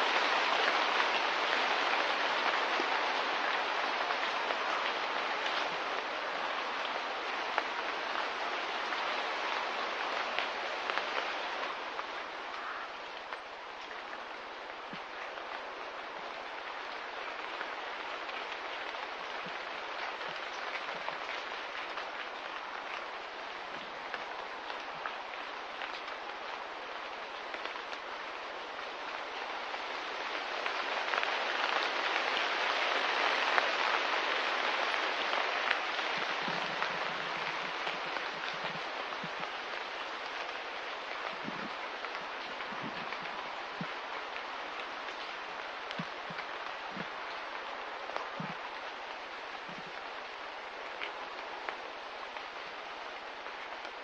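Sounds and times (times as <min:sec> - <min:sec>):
light rain pattering: 0:00.0 - 0:54.0.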